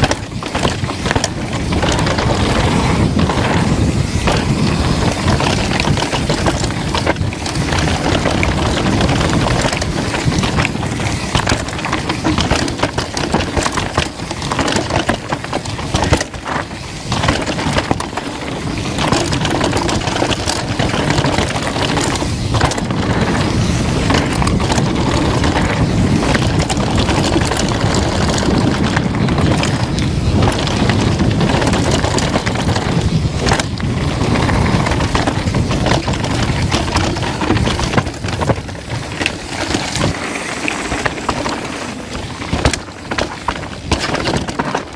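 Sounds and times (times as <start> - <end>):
bike clattering and rattling: 0.0 - 44.9
tyres running over loose stone: 0.0 - 44.9
wind noise on microphone: 0.0 - 44.9.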